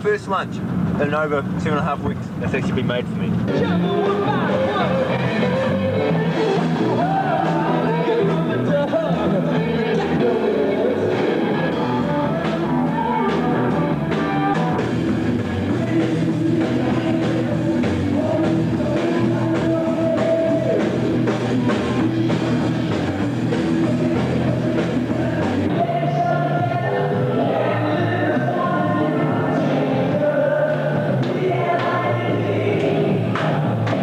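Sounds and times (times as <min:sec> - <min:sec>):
rock band performing: 0:03.2 - 0:34.0
person singing: 0:03.5 - 0:14.9, 0:15.6 - 0:34.0.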